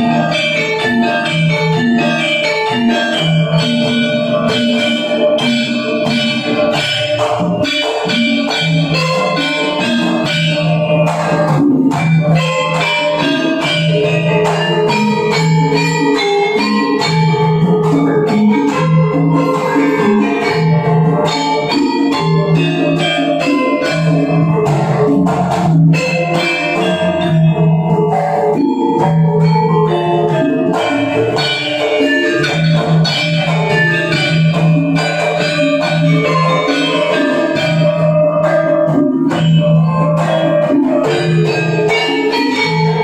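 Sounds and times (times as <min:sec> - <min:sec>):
hand drums beating: 0:00.0 - 0:43.0
metallophones and gongs ringing: 0:00.0 - 0:43.0.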